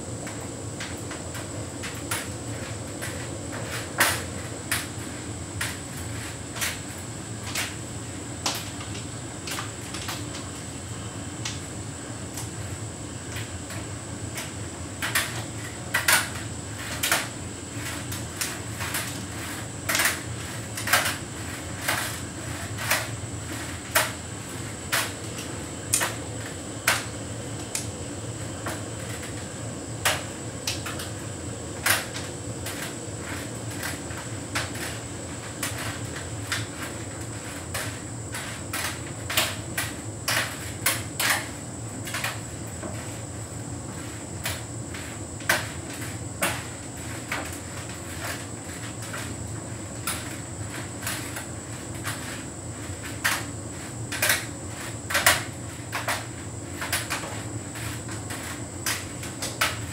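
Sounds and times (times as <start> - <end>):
tumble dryer hum and whine: 0.0 - 59.9.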